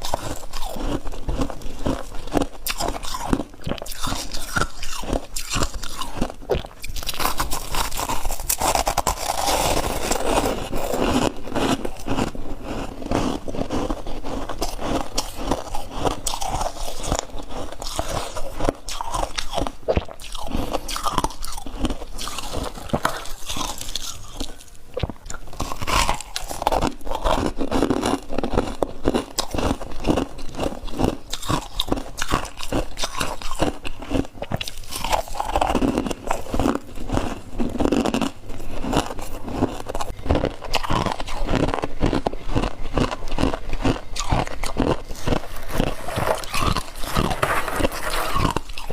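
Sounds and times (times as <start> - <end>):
chewing crunchy ice: 0.0 - 48.9.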